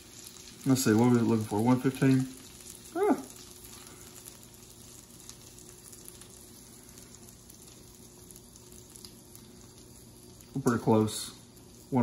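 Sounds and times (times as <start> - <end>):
butter sauce sizzling in skillet: 0.0 - 12.0
low steady hum: 0.0 - 12.0.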